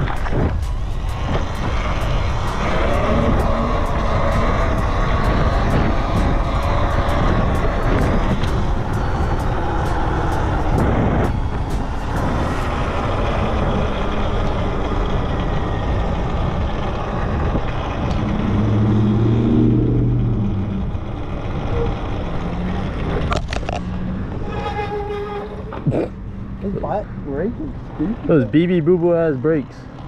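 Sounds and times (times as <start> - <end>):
wind noise on microphone: 0.0 - 27.0
vehicle engine drone: 0.0 - 30.0.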